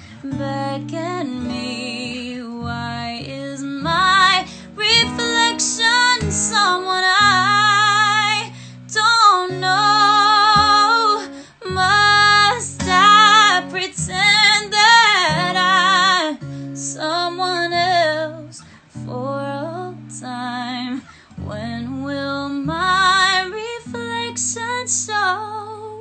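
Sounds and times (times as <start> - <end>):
strummed acoustic guitar: 0.0 - 26.0
woman singing a slow ballad: 0.0 - 26.0.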